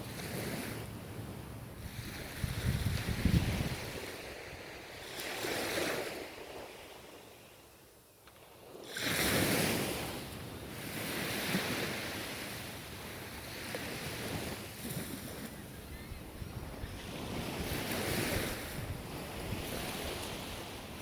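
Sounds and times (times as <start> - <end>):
wind on microphone: 0.0 - 7.5, 8.6 - 21.0
ocean waves breaking on shore: 0.0 - 21.0.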